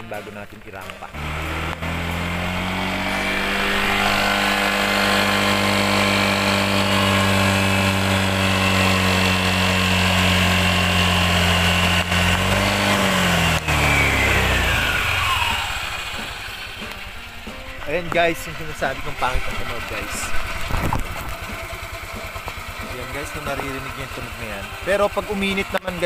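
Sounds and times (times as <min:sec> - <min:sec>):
scooter engine running roughly: 0:00.0 - 0:26.0.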